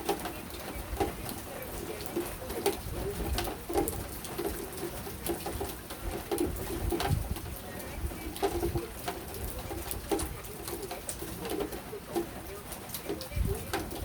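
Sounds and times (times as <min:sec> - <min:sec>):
rain dripping and pattering: 0:00.0 - 0:14.0.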